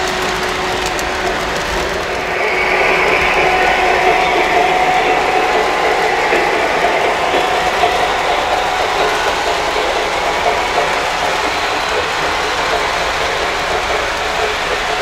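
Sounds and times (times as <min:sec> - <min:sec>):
model train wheels rattling on rails: 0:00.0 - 0:15.0.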